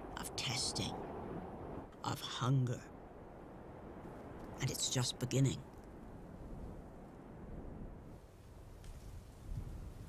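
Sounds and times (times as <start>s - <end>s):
low wind rumble: 0.0s - 10.0s.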